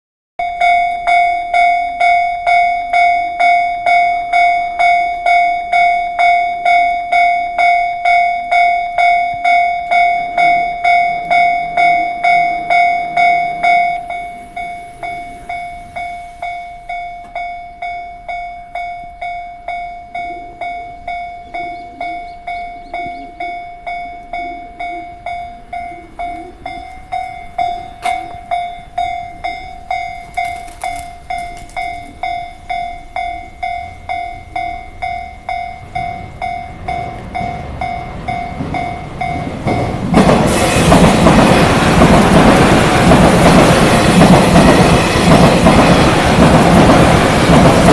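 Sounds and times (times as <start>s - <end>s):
level-crossing warning bell: 0.4s - 47.9s
train passing at speed: 8.4s - 47.9s.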